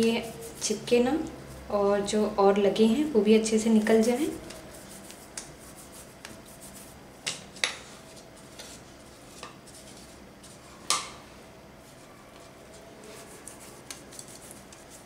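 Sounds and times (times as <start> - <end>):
hands working dough: 0.0 - 2.1, 3.8 - 11.2, 11.8 - 15.0.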